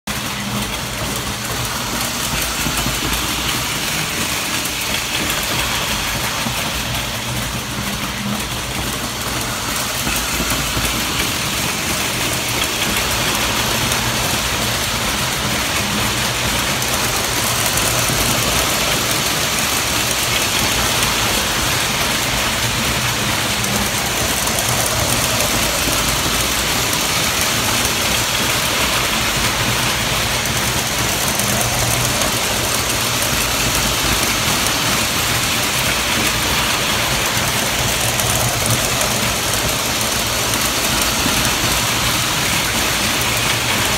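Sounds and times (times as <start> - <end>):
model train whirring and rumbling: 0.0 - 43.9.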